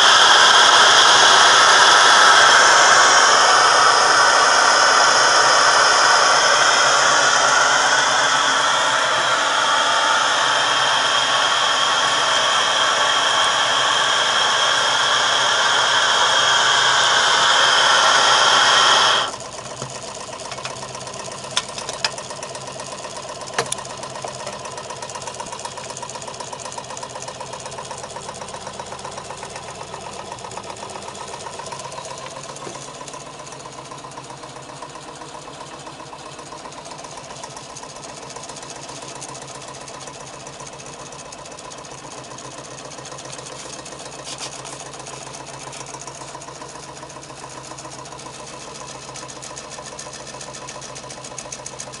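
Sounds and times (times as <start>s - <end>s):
stirling engine clattering: 0.0s - 52.0s.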